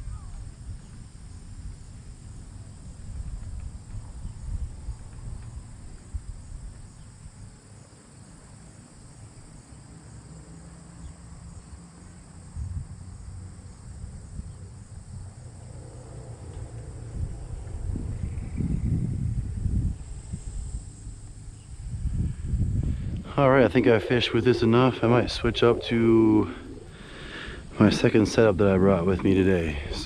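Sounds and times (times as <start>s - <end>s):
wind buffeting microphone: 0.0s - 7.9s, 12.4s - 30.0s
faint high insect chorus: 0.0s - 30.0s.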